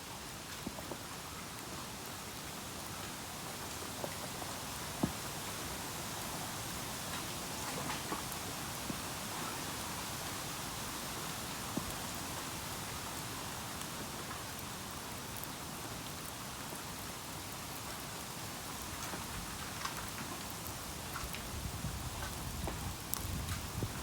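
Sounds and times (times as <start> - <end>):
bonfire hissing and crackling: 0.0 - 24.0.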